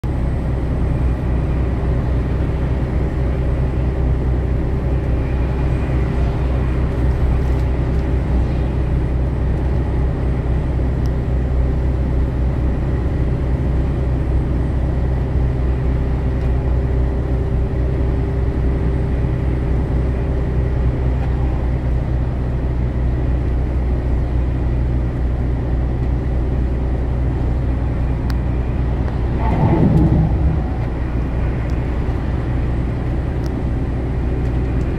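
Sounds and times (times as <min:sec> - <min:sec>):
vehicle engine and tyre drone: 0:00.0 - 0:34.9.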